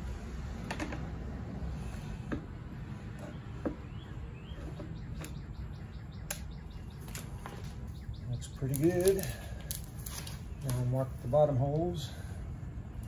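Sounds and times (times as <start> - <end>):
birds chirping: 1.7 - 13.0.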